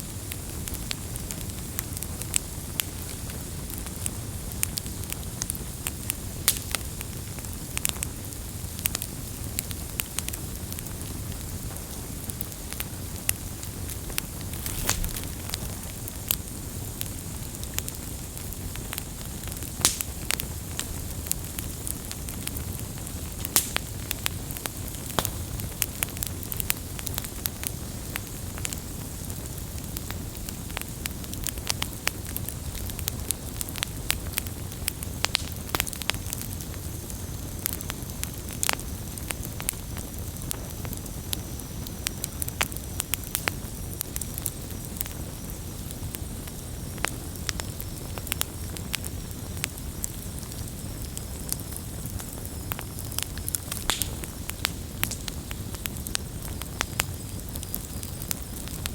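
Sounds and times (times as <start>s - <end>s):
campfire crackling and popping: 0.1s - 58.9s.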